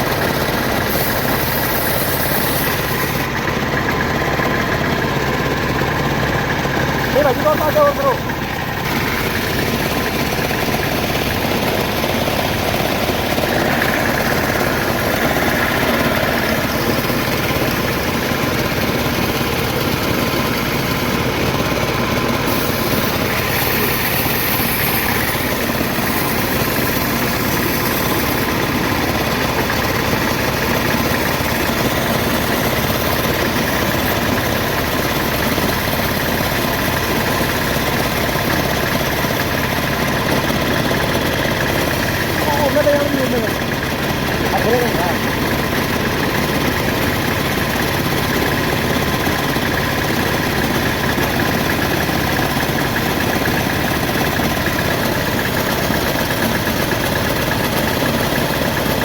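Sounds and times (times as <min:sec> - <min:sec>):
motor-driven machine running: 0:00.0 - 0:59.0.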